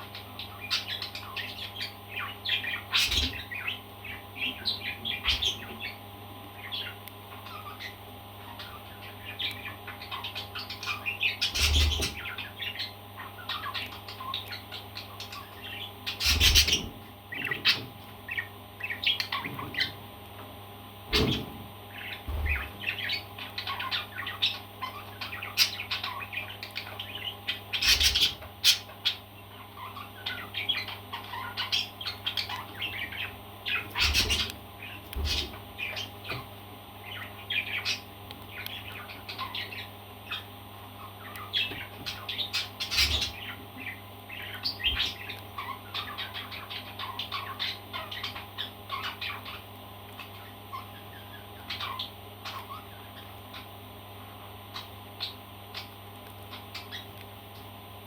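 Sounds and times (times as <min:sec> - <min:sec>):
parrot chirping and chattering: 0:00.0 - 0:06.0, 0:06.6 - 0:20.5, 0:21.1 - 0:57.2.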